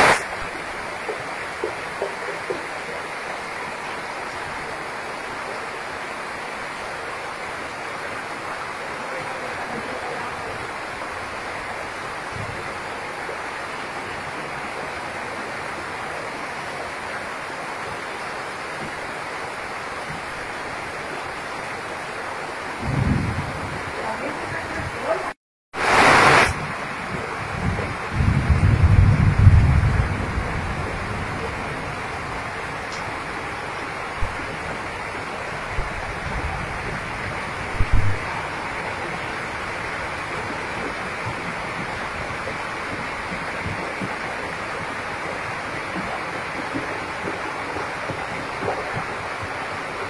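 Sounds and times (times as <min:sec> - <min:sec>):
floodwater rushing: 0:00.0 - 0:50.0
heavy rain pouring: 0:00.0 - 0:50.0.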